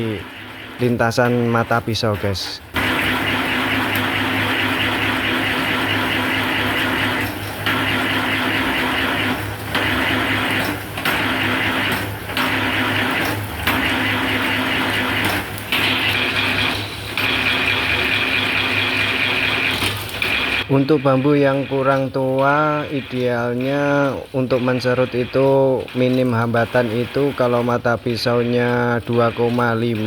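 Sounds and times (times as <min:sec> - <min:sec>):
bamboo skewer machine shaving: 0:00.0 - 0:30.0.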